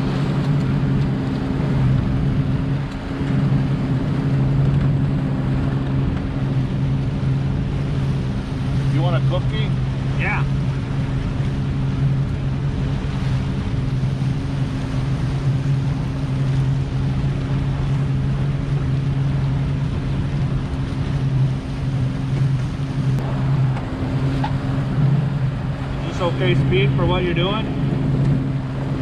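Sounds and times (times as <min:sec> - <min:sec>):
motorboat engine running: 0:00.0 - 0:29.0
water rushing against hull: 0:00.0 - 0:29.0
wind on microphone: 0:00.0 - 0:29.0.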